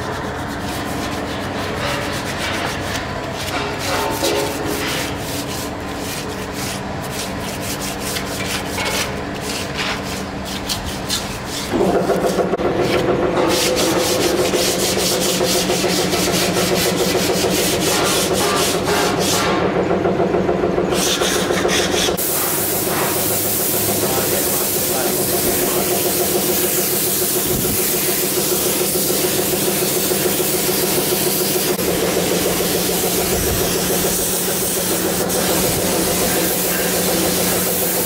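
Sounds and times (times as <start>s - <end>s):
scraping or sanding strokes: 0.0s - 12.4s, 13.4s - 19.5s, 21.0s - 38.0s
steady hum: 0.0s - 19.8s, 20.8s - 38.0s.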